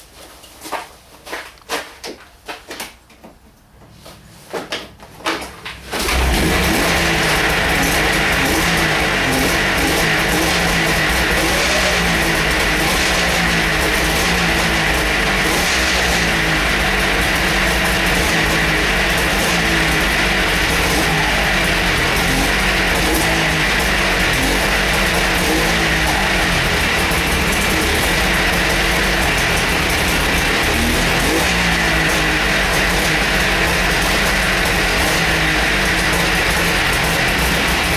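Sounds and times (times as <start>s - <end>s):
snowmobile engine running: 6.0s - 37.9s.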